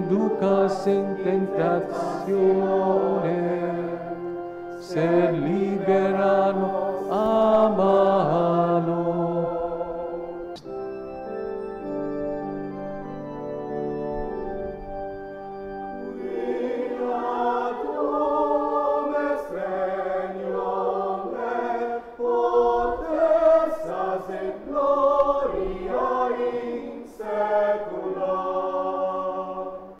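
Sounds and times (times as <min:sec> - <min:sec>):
choir singing: 0:00.0 - 0:12.0, 0:15.8 - 0:30.0
held organ chord: 0:00.0 - 0:30.0.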